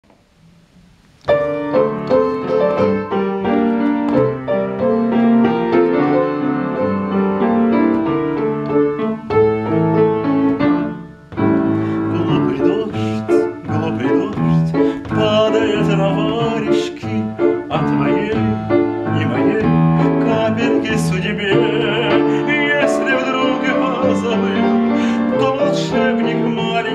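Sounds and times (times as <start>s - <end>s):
upright piano playing: 1.2s - 26.9s.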